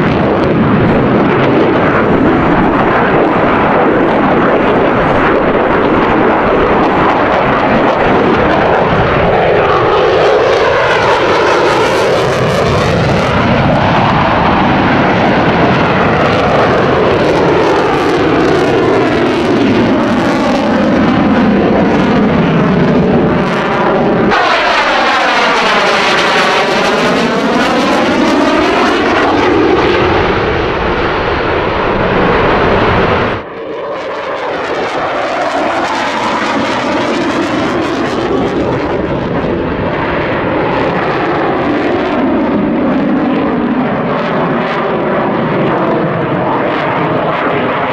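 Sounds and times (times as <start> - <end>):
jet engines in afterburner: 0.0 - 47.9
phasing whoosh of jet overhead: 0.0 - 47.9.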